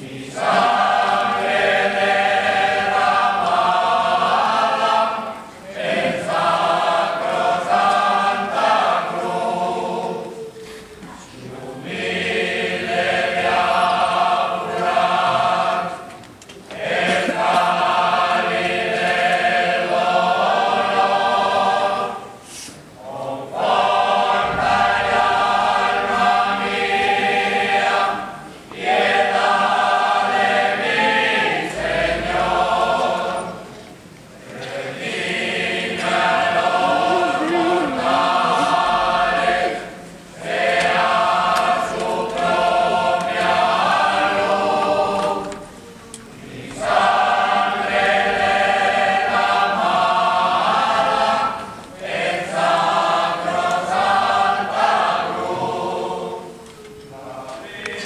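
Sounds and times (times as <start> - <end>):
men singing religious chant: 0.0 - 10.5, 11.4 - 16.0, 16.7 - 22.3, 23.0 - 33.6, 34.4 - 45.7, 46.3 - 58.0.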